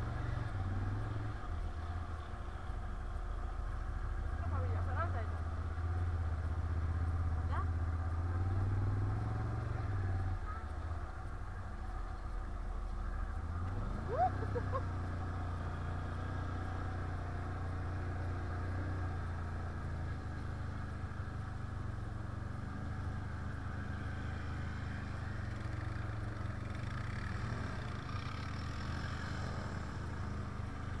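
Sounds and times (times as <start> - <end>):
quad engine running: 0.0 - 31.0.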